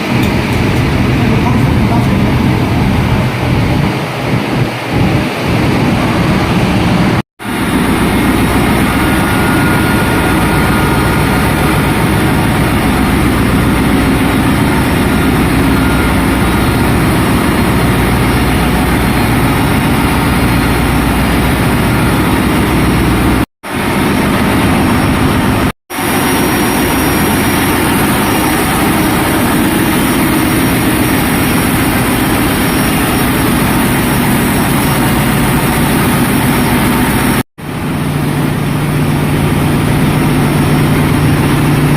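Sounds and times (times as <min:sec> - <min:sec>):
diesel engines running: 0:00.0 - 0:41.9.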